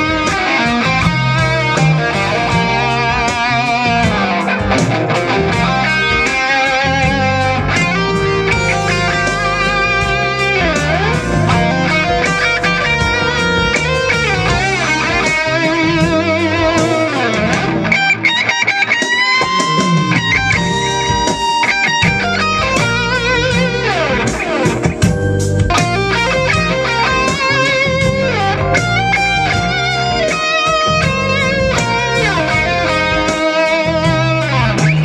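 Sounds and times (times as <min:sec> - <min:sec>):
backing track with bass: 0:00.0 - 0:35.0
overdriven electric guitar lead: 0:00.0 - 0:35.0.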